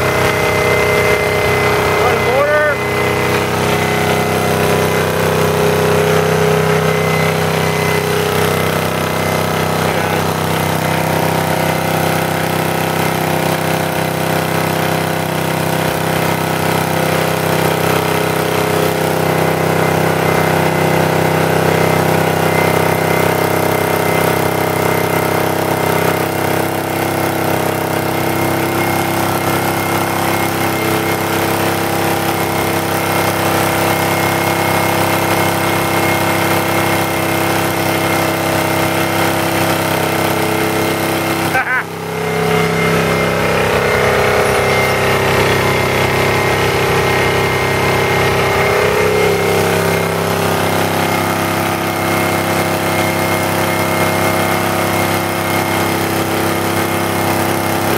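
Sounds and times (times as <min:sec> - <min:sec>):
single-cylinder engine running: 0:00.0 - 0:57.9.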